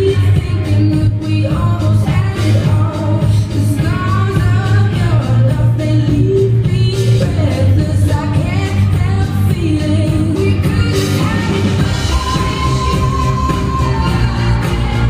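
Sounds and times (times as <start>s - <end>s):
person singing: 0.0s - 15.0s
pop-rock music: 0.0s - 15.0s.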